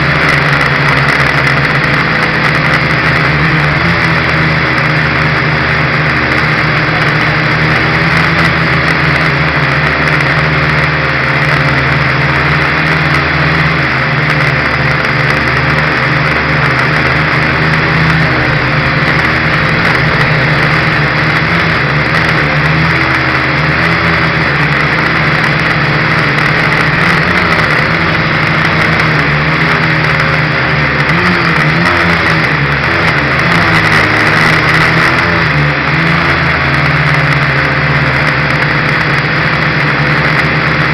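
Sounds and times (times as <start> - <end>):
quadcopter propellers buzzing: 0.0 - 40.9.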